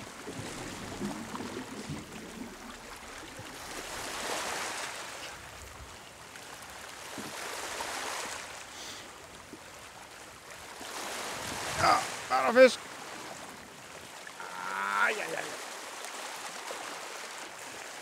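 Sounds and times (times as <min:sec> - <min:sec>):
rushing water swells: 0:00.0 - 0:18.0
sea water sloshing and gurgling: 0:00.0 - 0:18.0.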